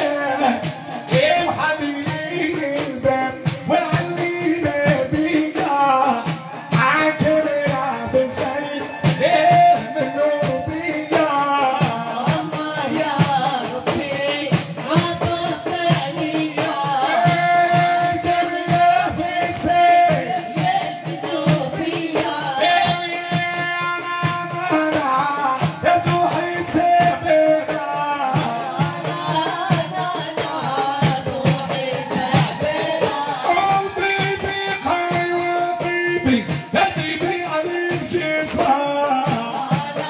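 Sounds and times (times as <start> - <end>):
frame drum beaten by hand: 0.0 - 40.0
man singing into microphone: 0.0 - 40.0.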